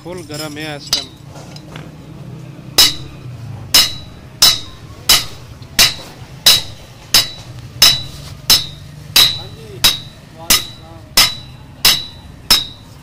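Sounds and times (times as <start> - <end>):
hammer striking anvil: 0.9 - 1.2, 2.8 - 13.0.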